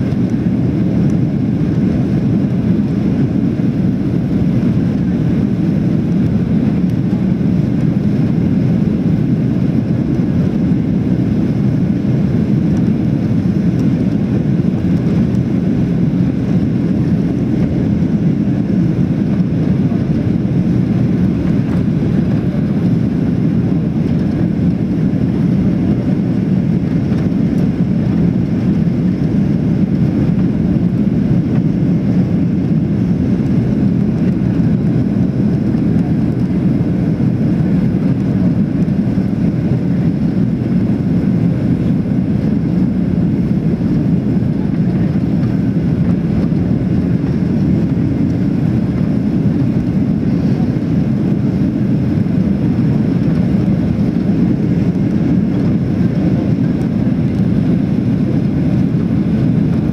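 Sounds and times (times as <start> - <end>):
airplane cabin engine rush: 0.0 - 59.9.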